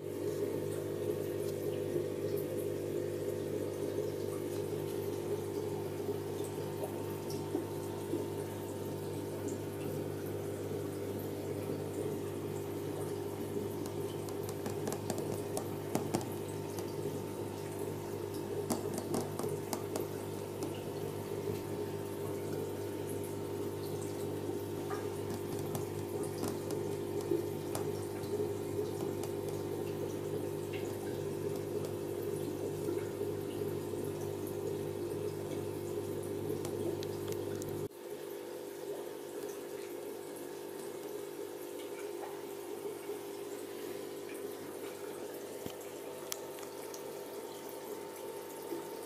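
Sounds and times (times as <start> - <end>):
aquarium equipment humming: 0.0 - 49.0
water bubbling and trickling: 0.0 - 49.0.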